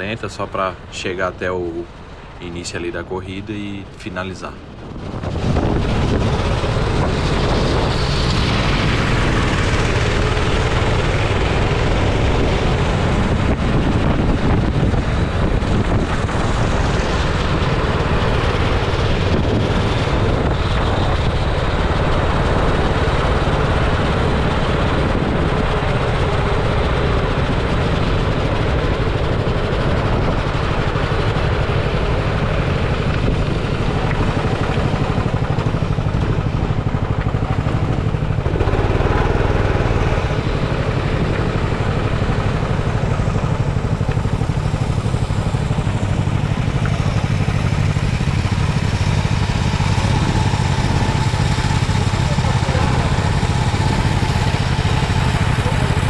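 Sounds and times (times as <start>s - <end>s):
go-kart engine running: 4.6s - 56.0s.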